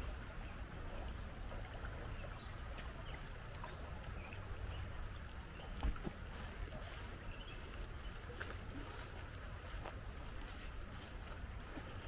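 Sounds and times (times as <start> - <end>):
creek water running over rocks: 0.0 - 12.0.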